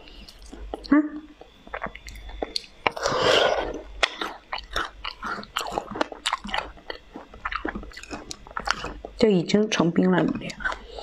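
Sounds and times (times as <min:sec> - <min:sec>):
crunching frozen berries: 0:00.0 - 0:11.0
ice crackling while chewed: 0:00.0 - 0:11.0.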